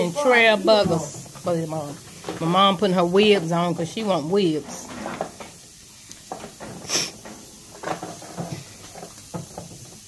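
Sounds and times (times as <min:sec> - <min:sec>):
meat sizzling on grill: 0:00.0 - 0:10.0.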